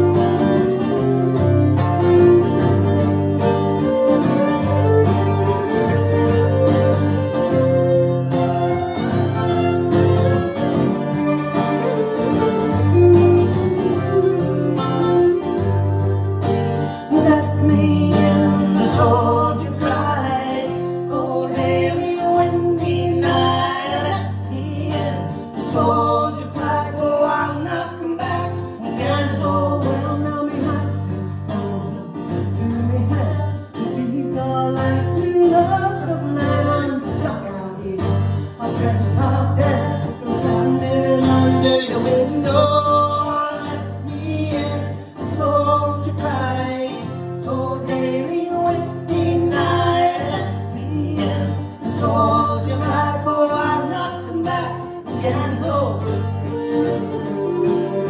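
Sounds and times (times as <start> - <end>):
bass: 0.0 - 58.0
person singing folk song: 0.0 - 58.0
plucked strings: 0.0 - 58.0.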